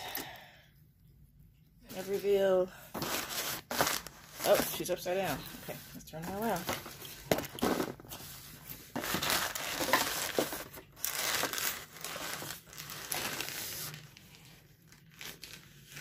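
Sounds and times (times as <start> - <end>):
plastic bag crinkling: 1.9 - 16.0.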